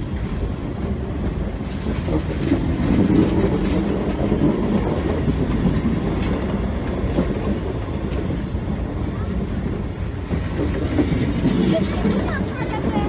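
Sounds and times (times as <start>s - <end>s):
rail joint clicks: 0.0s - 13.0s
wheels rumbling on rails: 0.0s - 13.0s.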